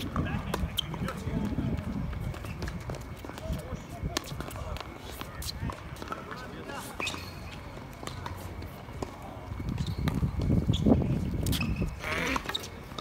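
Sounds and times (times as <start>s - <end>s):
footsteps on hard court: 0.0s - 13.0s.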